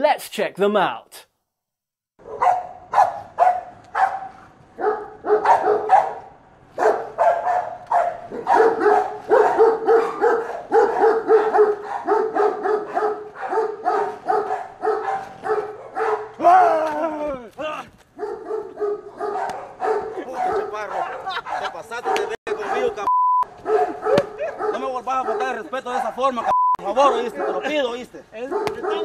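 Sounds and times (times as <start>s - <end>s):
dog barking: 2.2s - 16.4s, 18.2s - 29.0s.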